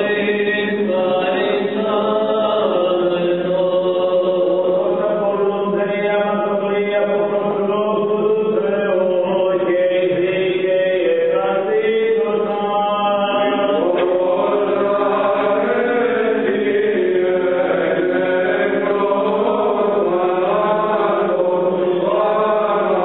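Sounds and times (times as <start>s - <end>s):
held vocal drone: 0.0s - 23.0s
voices chanting a slow melody: 0.0s - 23.0s.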